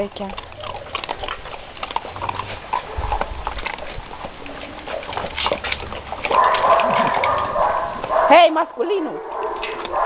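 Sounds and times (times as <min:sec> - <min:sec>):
dogs crunching dry kibble: 0:00.0 - 0:10.0.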